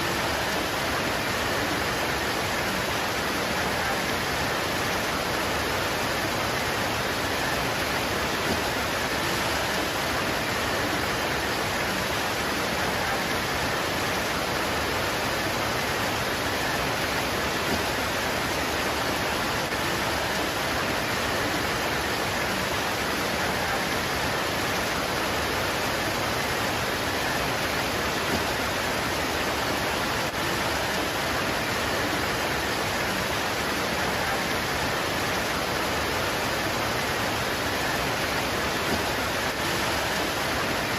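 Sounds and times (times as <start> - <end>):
heavy rain on leaves: 0.0 - 40.9.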